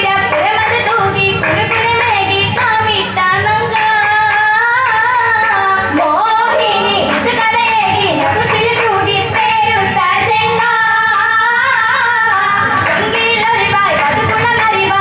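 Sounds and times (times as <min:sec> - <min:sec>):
girls singing through pa system: 0:00.0 - 0:15.0.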